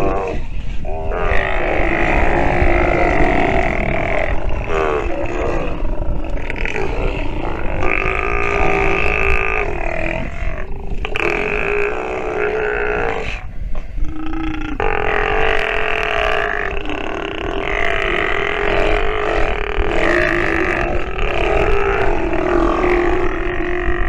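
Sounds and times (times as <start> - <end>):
sea lions calling: 0.0 - 24.0
steady low rumble: 0.0 - 24.0.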